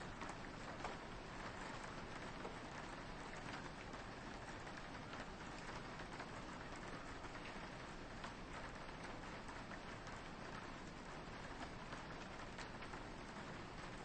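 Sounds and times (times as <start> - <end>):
raindrops on a window: 0.0 - 14.0
soft rain falling: 0.0 - 14.0.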